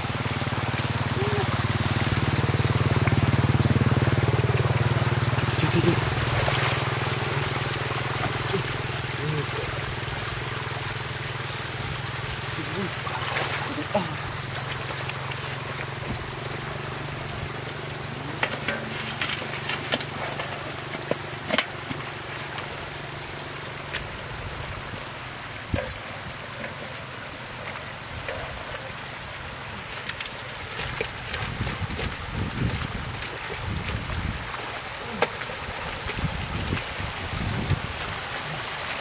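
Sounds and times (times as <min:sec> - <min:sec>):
water trickling over mud: 0:00.0 - 0:39.0.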